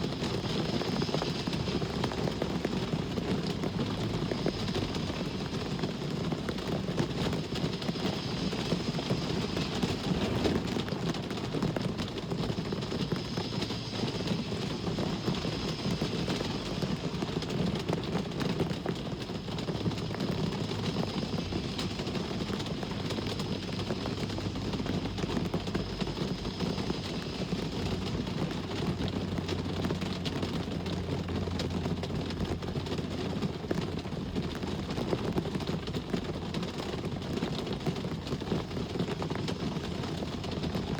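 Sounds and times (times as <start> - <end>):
low engine-like hum: 0.0 - 40.9
low traffic rumble: 0.0 - 40.9
steady rain: 0.0 - 40.9.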